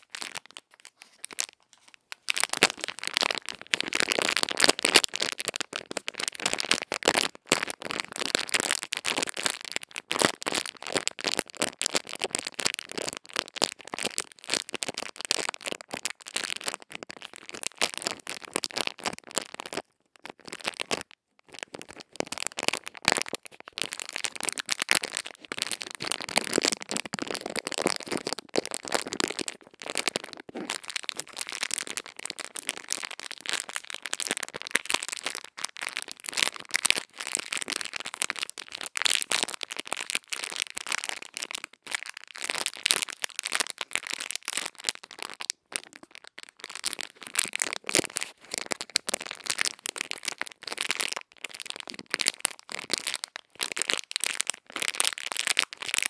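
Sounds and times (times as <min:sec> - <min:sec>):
crackling and scratching in ear: 0:00.0 - 0:56.0.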